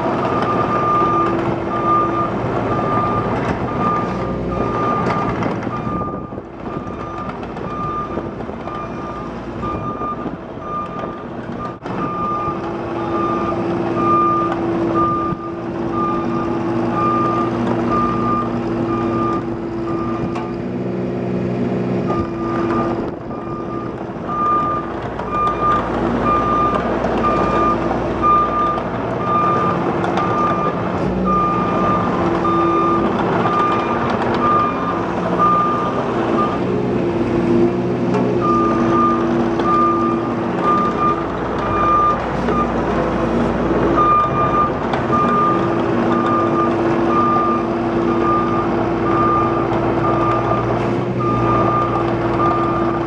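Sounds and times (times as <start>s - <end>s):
diesel engine running: 0.0s - 53.0s
excavator travel alarm beeping: 0.1s - 20.6s, 22.0s - 36.7s, 38.3s - 53.0s.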